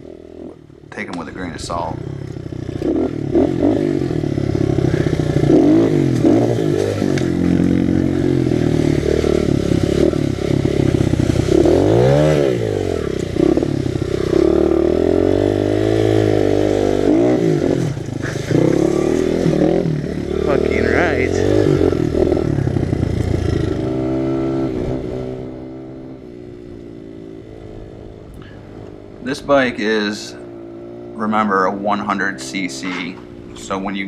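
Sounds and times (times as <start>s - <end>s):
motorbike engine revving: 0.0s - 34.0s.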